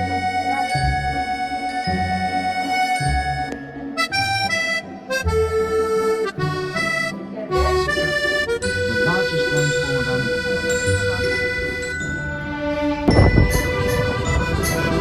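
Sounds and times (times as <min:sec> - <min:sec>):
melody with bass line: 0:00.0 - 0:15.0.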